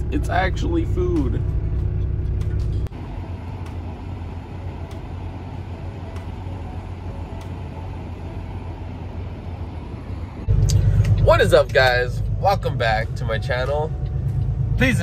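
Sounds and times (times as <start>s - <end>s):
diesel truck engines idling: 0.0s - 15.0s.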